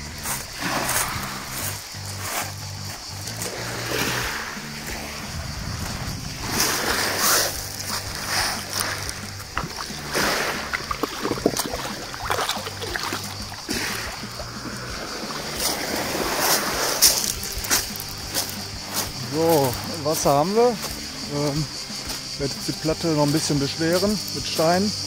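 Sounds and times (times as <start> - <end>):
small waves lapping: 0.0 - 24.8
water splashing and sloshing: 0.0 - 24.9.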